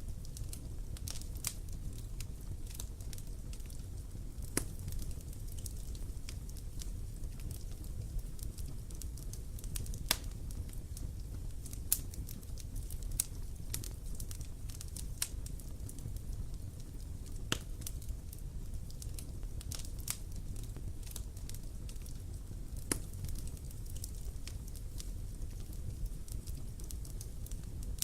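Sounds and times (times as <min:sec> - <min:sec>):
campfire crackles and pops: 0:00.0 - 0:28.0
low rumble of flames: 0:00.0 - 0:28.0.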